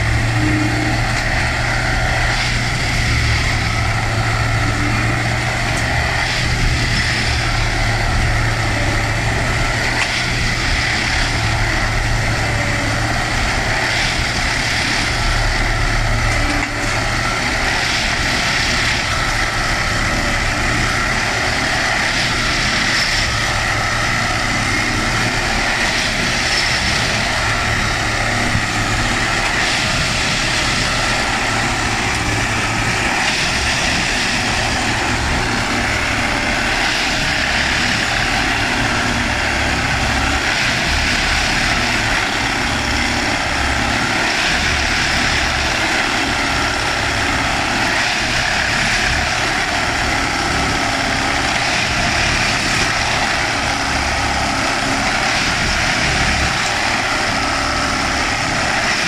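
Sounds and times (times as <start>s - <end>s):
diesel engine running: 0.0s - 59.0s
high whine: 0.0s - 59.0s.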